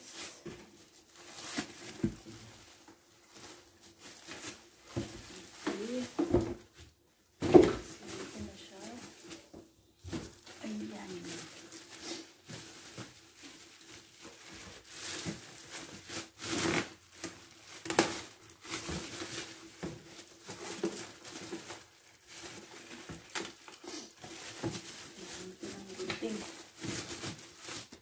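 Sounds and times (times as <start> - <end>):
plastic packaging rustling: 0.0 - 28.0.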